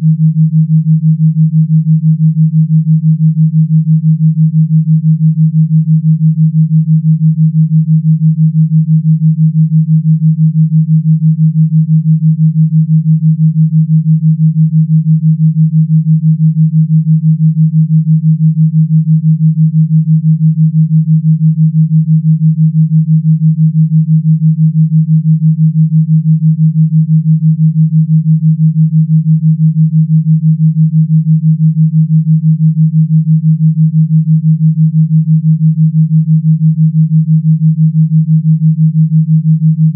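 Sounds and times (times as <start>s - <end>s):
pulsing low pure tone: 0.0s - 39.9s.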